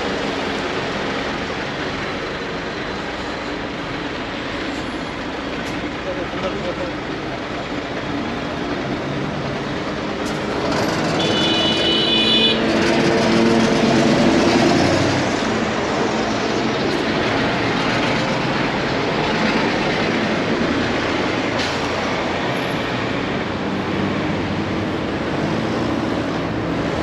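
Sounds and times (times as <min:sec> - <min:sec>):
tram wheels rumbling on rails: 0:00.0 - 0:27.0.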